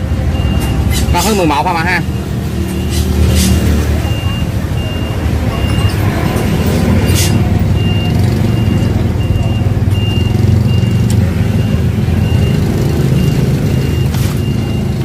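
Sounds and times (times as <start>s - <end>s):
vehicle engine running: 0.0s - 15.0s
reversing alarm beeps: 0.3s - 15.0s.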